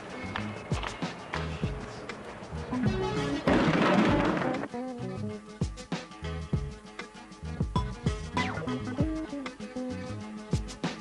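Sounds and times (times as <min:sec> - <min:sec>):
music with a beat: 0:00.0 - 0:03.5, 0:04.1 - 0:11.0.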